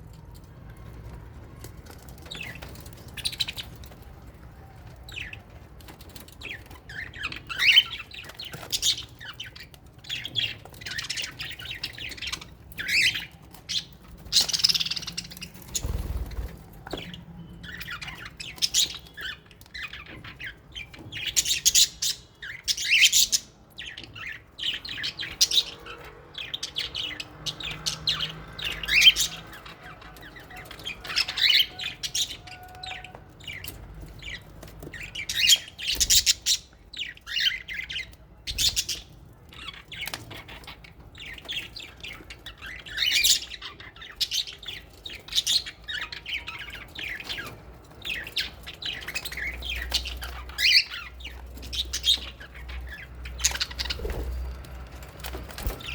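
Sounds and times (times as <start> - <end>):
parrots chirping and squawking: 6.4 - 55.9.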